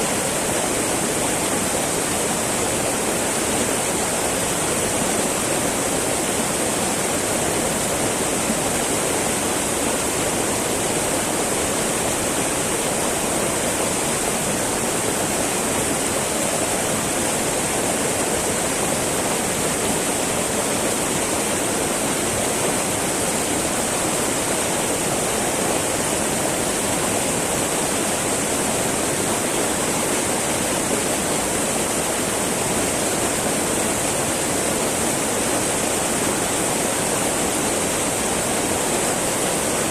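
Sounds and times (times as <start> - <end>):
river babbling: 0.0 - 39.9.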